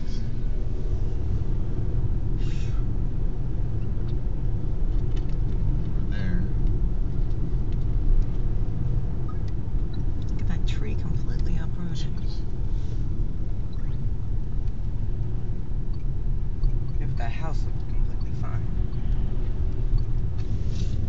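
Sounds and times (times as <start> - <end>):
car cabin road and engine rumble: 0.0 - 21.0.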